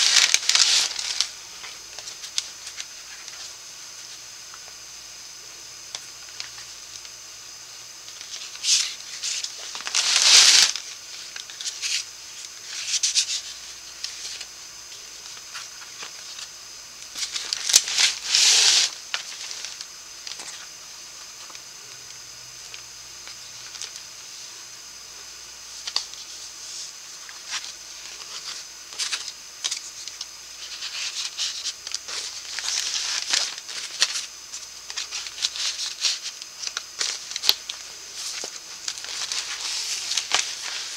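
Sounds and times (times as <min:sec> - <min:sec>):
paper pages rustling: 0:00.0 - 0:04.7, 0:08.0 - 0:16.5, 0:17.1 - 0:22.0, 0:25.8 - 0:40.9
faint steady hiss: 0:00.0 - 0:40.9.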